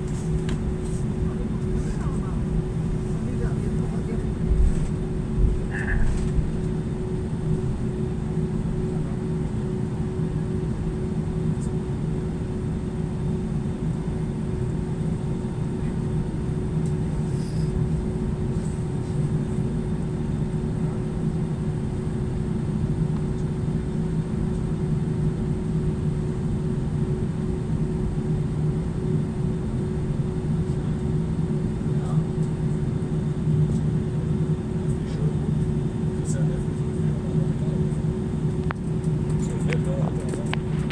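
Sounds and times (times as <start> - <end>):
aircraft cabin drone: 0.0 - 40.9.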